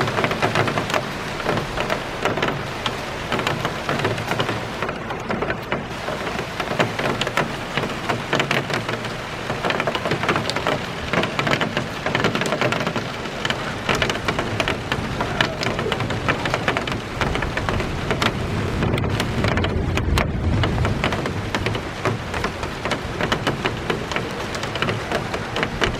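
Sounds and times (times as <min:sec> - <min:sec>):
heavy rain shower: 0:00.0 - 0:25.9
raindrops pattering on hard surface: 0:00.0 - 0:25.9.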